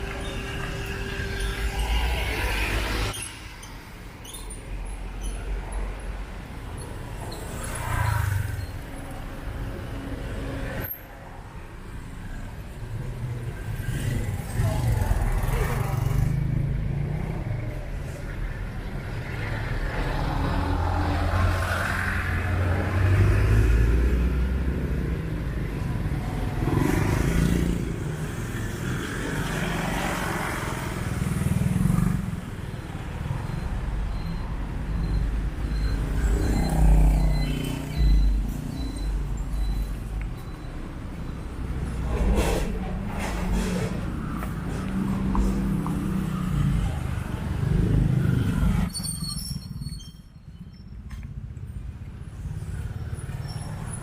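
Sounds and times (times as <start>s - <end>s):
vehicles passing close by: 0.0s - 54.0s.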